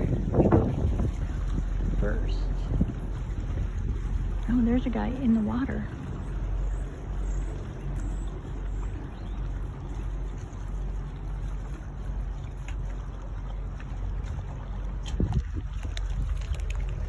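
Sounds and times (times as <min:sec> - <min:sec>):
boat engine humming: 0:00.0 - 0:17.0
water and air noise: 0:00.0 - 0:17.0.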